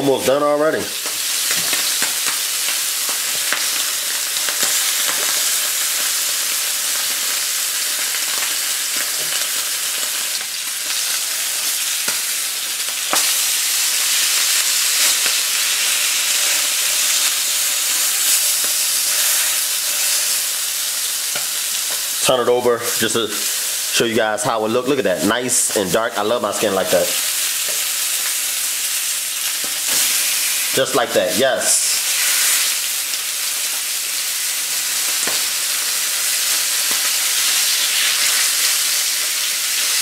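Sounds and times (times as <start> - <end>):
fish sizzling in a frying pan: 0.2 - 40.0.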